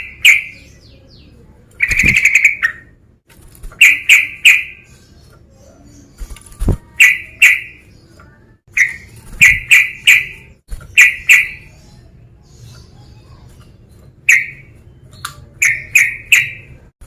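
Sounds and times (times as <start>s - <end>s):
bird calling ringing notes: 0.0s - 3.0s, 3.8s - 6.2s, 6.8s - 16.9s.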